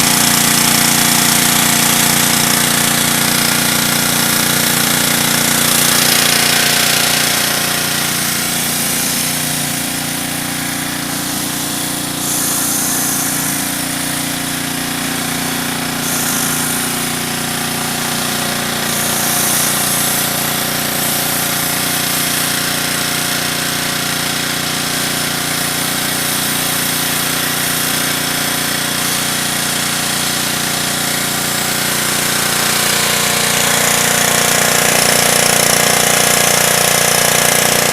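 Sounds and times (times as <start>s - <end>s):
pressure washer rattling: 0.0s - 37.9s.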